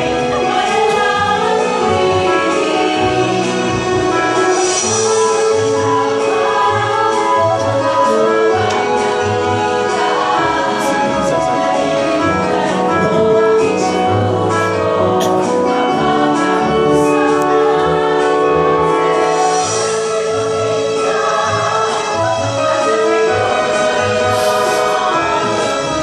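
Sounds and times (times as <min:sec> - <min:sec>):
mixed choir singing in harmony: 0:00.0 - 0:26.0.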